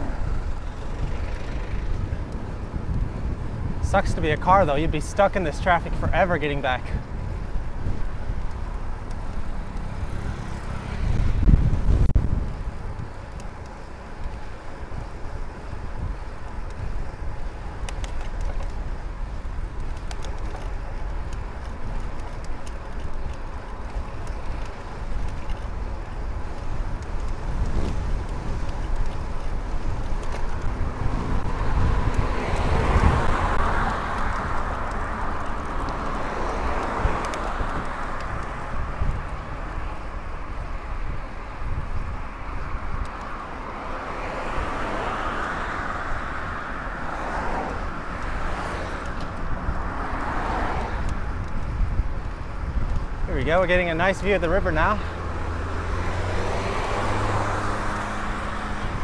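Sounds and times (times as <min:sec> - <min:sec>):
motor vehicle passing: 0:00.0 - 0:59.0
road traffic noise: 0:00.0 - 0:59.0
wind rumbling on microphone: 0:00.0 - 0:59.0.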